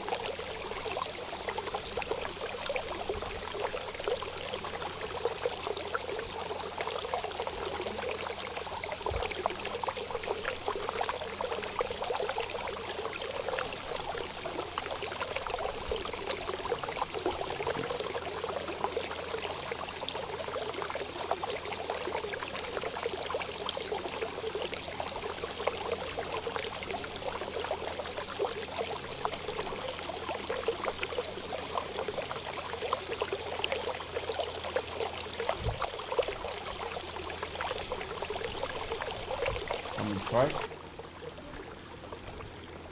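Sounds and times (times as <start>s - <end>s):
trickling flowing water: 0.0s - 42.9s.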